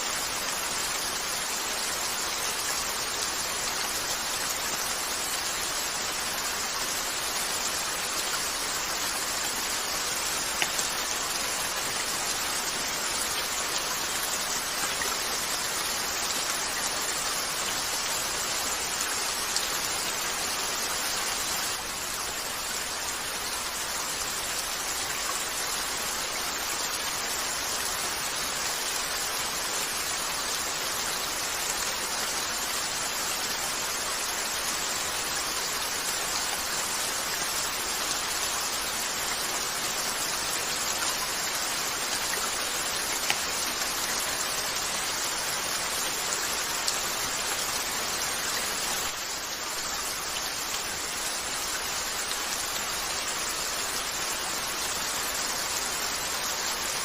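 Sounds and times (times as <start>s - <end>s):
rain falling on a window: 0.0s - 57.0s.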